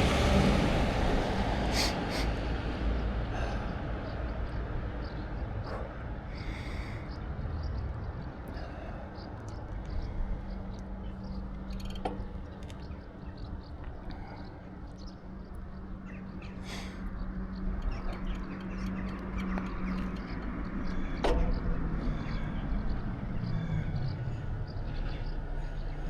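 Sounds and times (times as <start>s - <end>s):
wind rumble: 0.0s - 26.0s.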